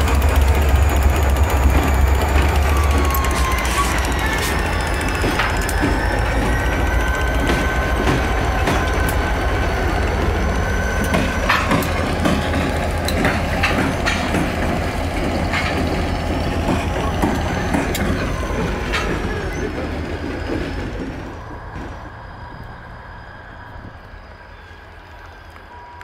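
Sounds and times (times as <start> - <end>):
diesel locomotive engines rumbling: 0.0 - 26.0
wheels clicking on rails: 0.0 - 26.0
thin squealing tone: 2.5 - 26.0.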